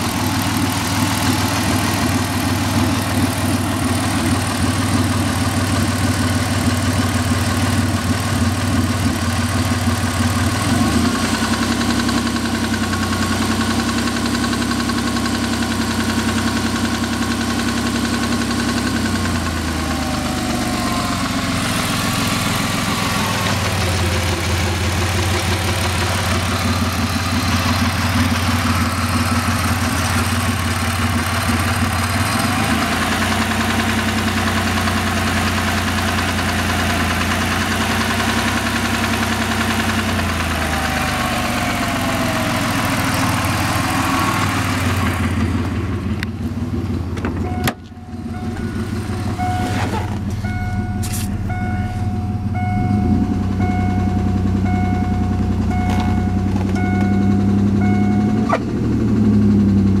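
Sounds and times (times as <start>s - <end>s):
car engine revving: 0.0s - 60.0s
engine knock: 0.0s - 60.0s.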